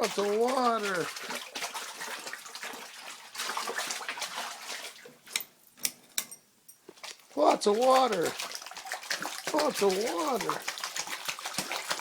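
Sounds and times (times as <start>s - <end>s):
water splashing and running: 0.0s - 5.5s, 6.9s - 12.0s.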